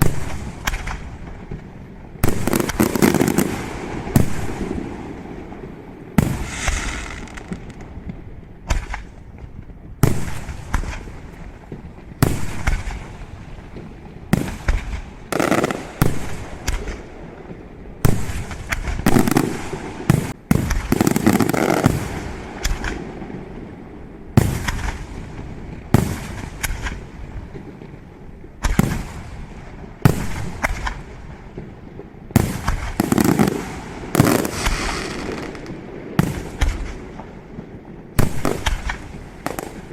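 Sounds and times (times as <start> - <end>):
fireworks bursting with echo: 0.0 - 39.9.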